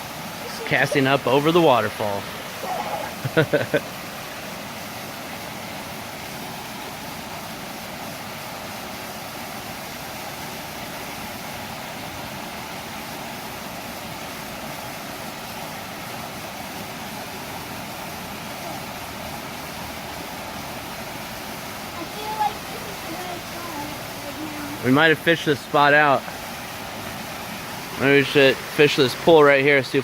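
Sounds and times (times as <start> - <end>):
water pouring over waterfall: 0.0 - 30.0.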